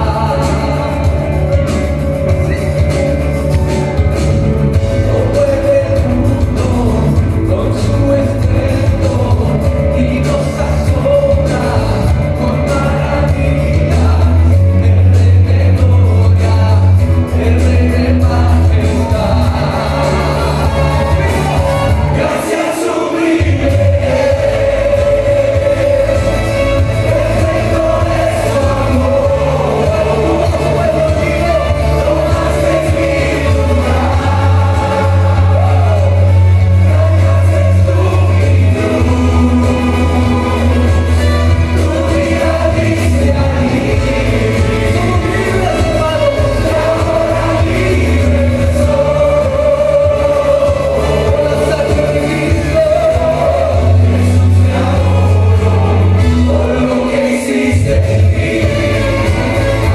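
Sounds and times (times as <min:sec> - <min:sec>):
choir singing worship song: 0:00.0 - 0:01.6, 0:04.8 - 0:59.9
band with guitars and heavy bass: 0:00.0 - 0:59.9.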